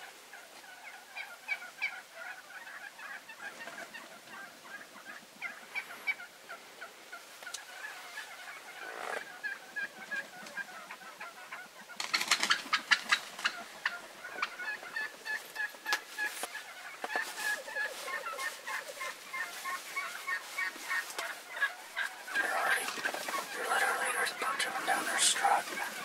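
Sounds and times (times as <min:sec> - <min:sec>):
turkey gobbling: 0:00.3 - 0:26.0
turkeys calling: 0:00.3 - 0:26.0.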